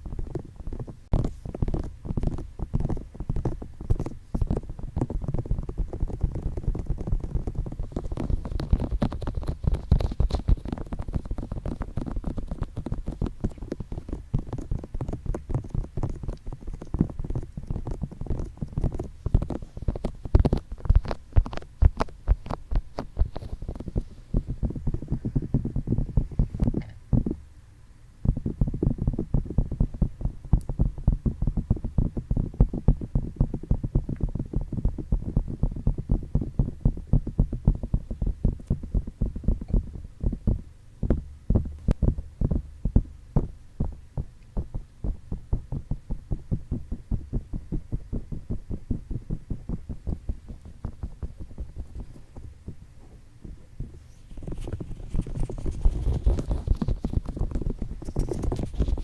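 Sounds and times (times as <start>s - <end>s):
fingertips tapping on microphone: 0.0s - 27.4s, 28.2s - 59.0s
scratching over microphone: 0.0s - 27.4s, 28.3s - 59.0s.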